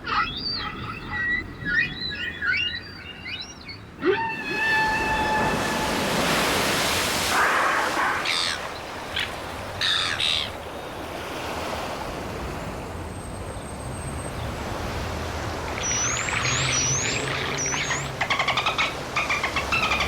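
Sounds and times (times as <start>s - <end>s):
ocean waves washing: 0.0s - 20.0s.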